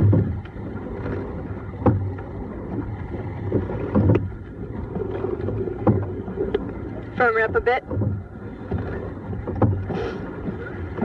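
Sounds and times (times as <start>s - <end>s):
oars clunking in oarlocks: 0.0s - 11.0s
water and wind rushing: 0.0s - 11.0s.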